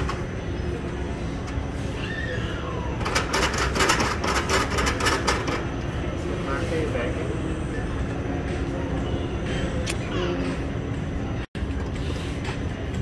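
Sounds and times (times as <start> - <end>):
low shop hum: 0.0 - 13.0.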